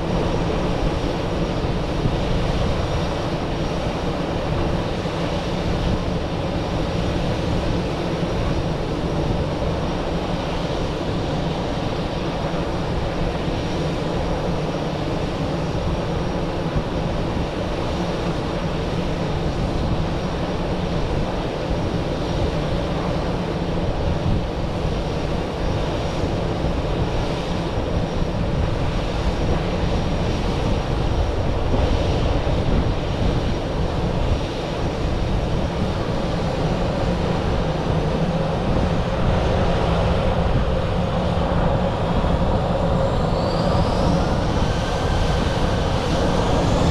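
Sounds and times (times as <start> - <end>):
jet engines droning: 0.0 - 46.9.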